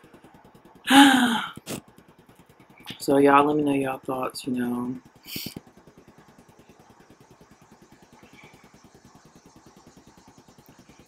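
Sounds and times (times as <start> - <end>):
low mechanical throb: 0.0 - 11.0.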